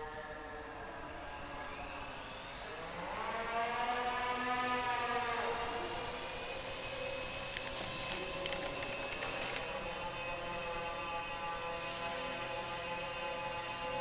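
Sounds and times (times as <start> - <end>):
electric motor and propeller whining: 0.0 - 14.0.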